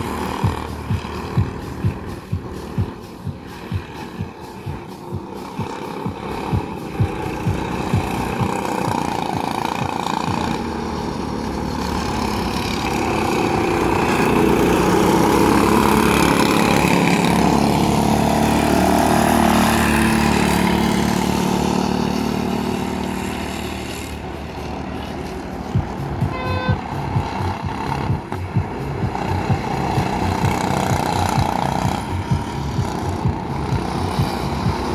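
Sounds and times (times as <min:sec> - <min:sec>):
go-kart engines running: 0:00.0 - 0:34.9.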